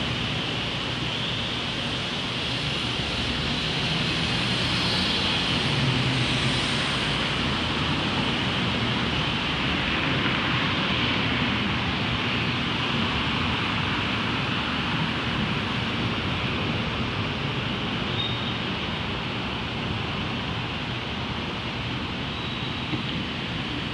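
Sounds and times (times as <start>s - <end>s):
distant city traffic: 0.0s - 23.9s.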